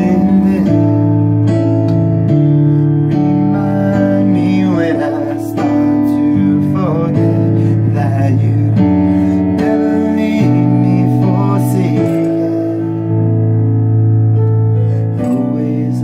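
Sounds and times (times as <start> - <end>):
man singing: 0.0 - 1.6, 3.1 - 13.5, 14.9 - 16.0
sustained instrumental chords: 0.0 - 16.0.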